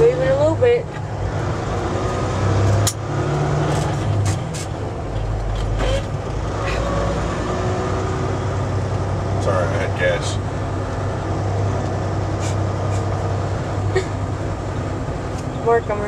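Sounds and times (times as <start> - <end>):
road noise: 0.0 - 16.0
truck diesel engine running: 0.0 - 16.0.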